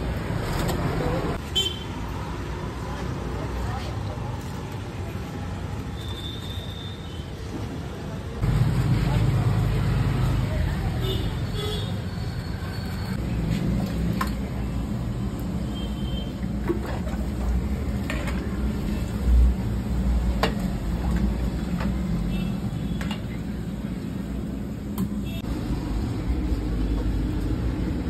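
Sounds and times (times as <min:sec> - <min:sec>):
low rumble of traffic: 0:00.0 - 0:28.0.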